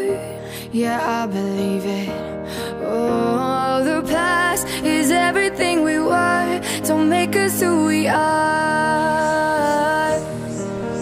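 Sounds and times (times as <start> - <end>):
pop song: 0.0 - 11.0.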